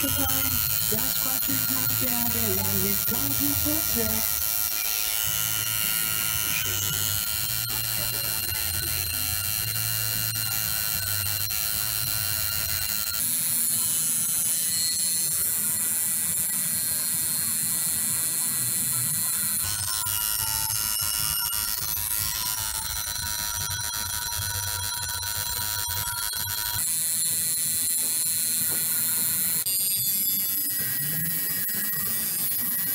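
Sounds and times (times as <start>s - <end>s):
tattoo machine buzzing: 0.0s - 32.9s.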